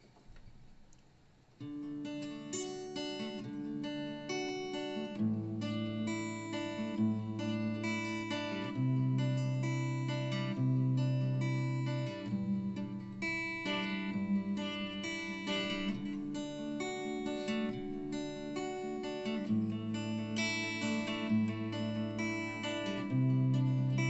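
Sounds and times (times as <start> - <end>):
acoustic guitar chords: 1.7 - 24.0.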